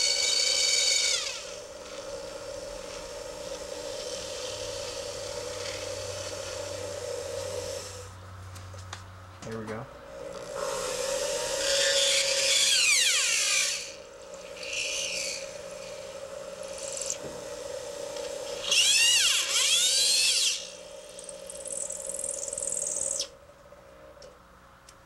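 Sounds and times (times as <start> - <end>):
rotary tool grinding acrylic: 0.0 - 8.1, 10.2 - 23.3
steady hum: 0.0 - 25.0.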